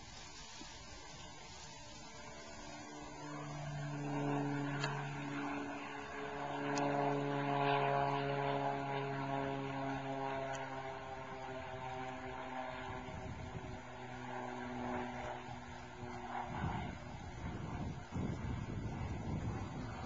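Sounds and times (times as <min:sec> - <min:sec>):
propeller plane droning past: 0:00.0 - 0:20.0.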